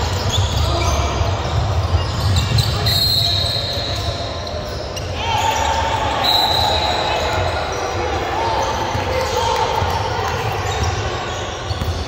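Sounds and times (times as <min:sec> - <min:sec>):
voices echoing in hall: 0:00.0 - 0:12.0.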